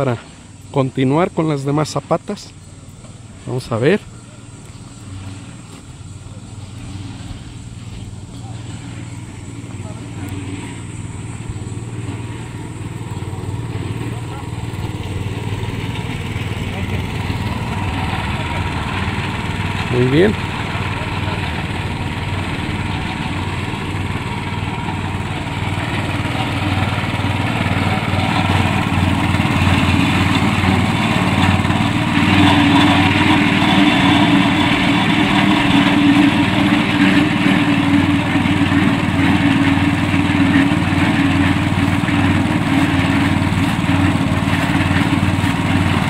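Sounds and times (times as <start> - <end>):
concrete mixer engine humming: 0.0 - 46.0.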